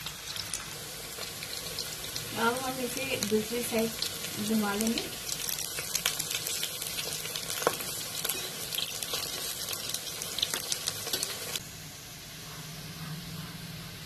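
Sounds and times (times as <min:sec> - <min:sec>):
food sizzling in hot oil: 0:00.0 - 0:11.6.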